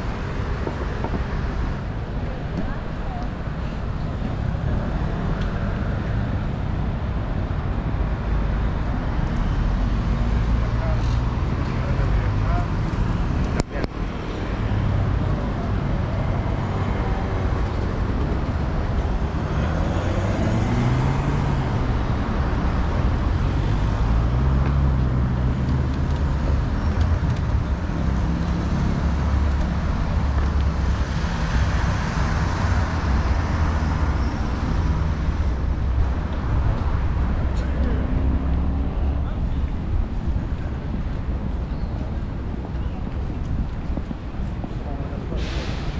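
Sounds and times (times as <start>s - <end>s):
car engines passing: 0.0s - 45.9s
low traffic rumble: 0.0s - 45.9s.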